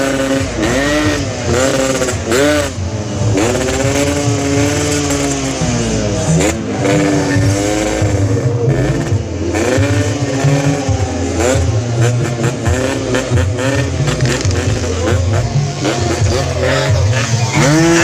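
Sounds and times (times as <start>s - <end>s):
two-stroke motorcycle revving: 0.0s - 18.0s.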